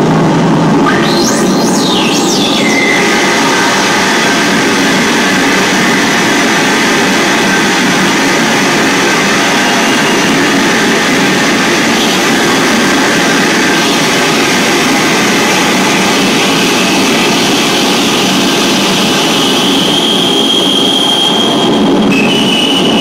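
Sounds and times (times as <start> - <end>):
dense electronic noise: 0.0 - 23.0
high steady tone: 0.8 - 22.0.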